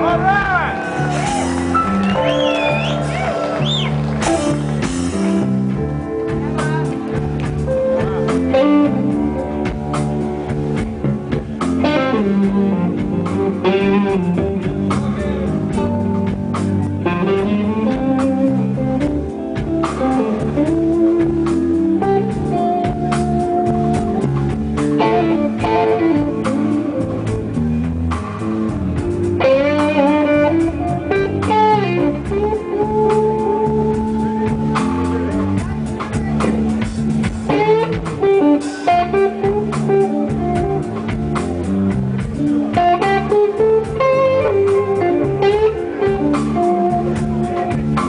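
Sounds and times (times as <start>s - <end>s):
blues band playing: 0.0s - 48.0s
lead guitar bending notes: 0.0s - 48.0s.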